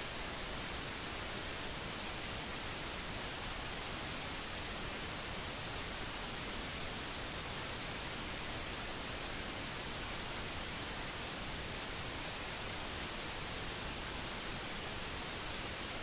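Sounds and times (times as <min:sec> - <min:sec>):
steady static hiss: 0:00.0 - 0:16.0.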